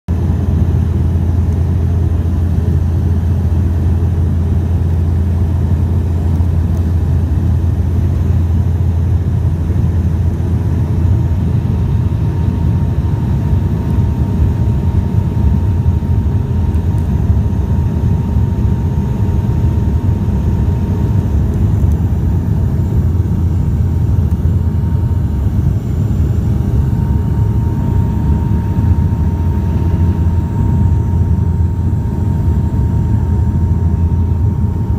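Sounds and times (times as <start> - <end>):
turboprop engines droning: 0.1 - 34.9.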